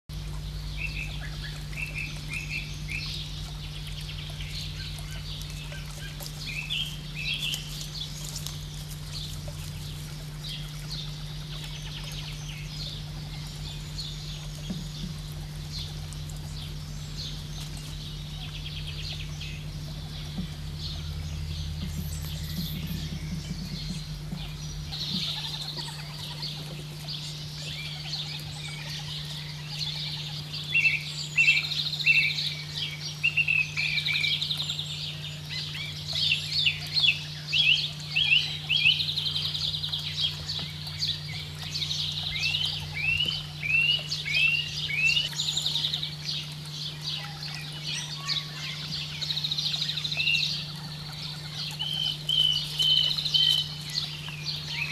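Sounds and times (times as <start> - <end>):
birds chirping and trilling: 0.1 - 54.9
steady low hum: 0.1 - 54.9.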